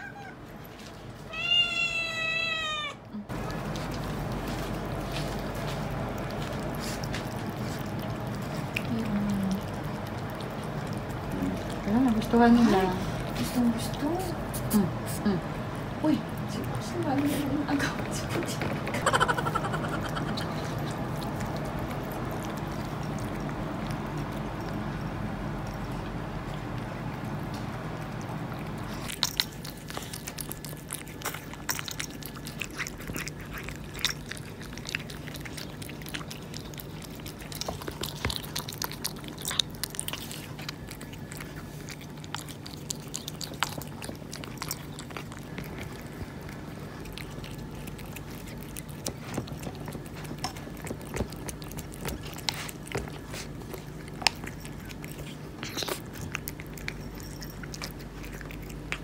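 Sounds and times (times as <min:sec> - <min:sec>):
cats chewing wet food: 0:00.0 - 0:59.0.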